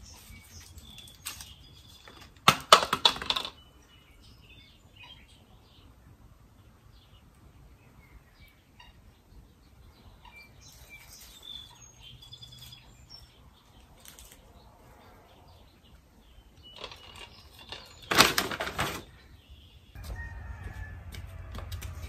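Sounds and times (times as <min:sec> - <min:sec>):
birds chirping: 0:00.0 - 0:02.5, 0:03.1 - 0:22.0.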